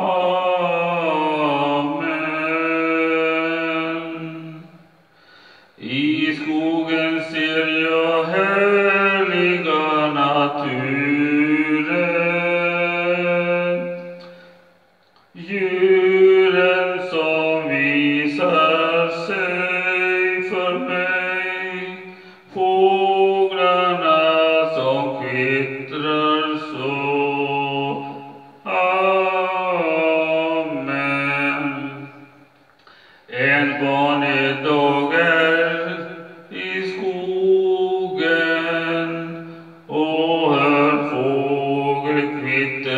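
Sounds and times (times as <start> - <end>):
man singing into microphone: 0.0 - 4.8, 5.8 - 14.4, 15.2 - 32.3, 33.3 - 42.9.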